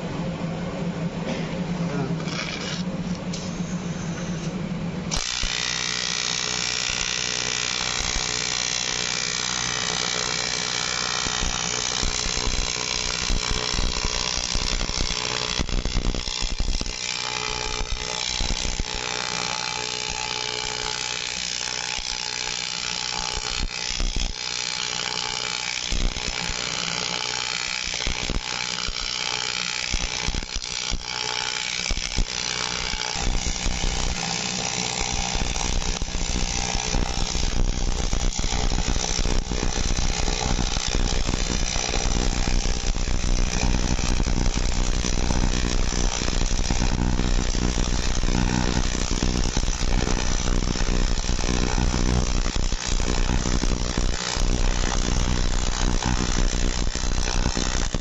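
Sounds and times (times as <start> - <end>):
welding arc buzzing: 2.2 - 3.6, 5.1 - 58.0.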